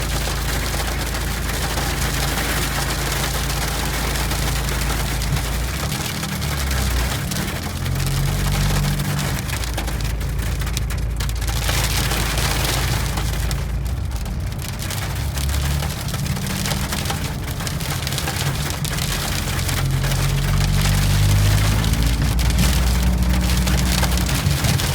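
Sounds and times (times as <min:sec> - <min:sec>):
hail pelting down: 0:00.0 - 0:24.9.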